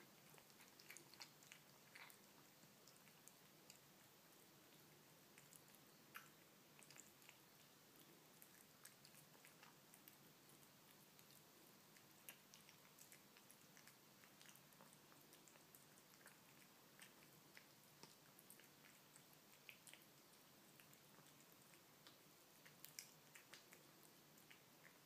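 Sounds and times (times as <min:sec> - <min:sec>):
kitten chewing food: 0:00.0 - 0:25.0.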